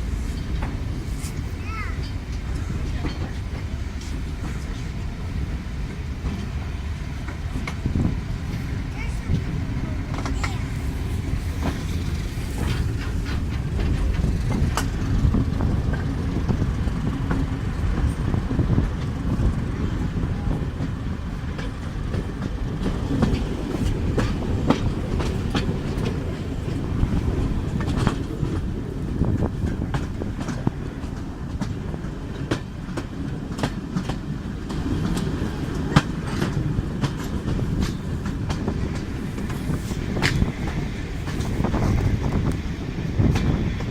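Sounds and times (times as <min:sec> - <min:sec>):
train rumbling on rails: 0:00.0 - 0:43.9
wheels clicking over rail joints: 0:00.0 - 0:43.9.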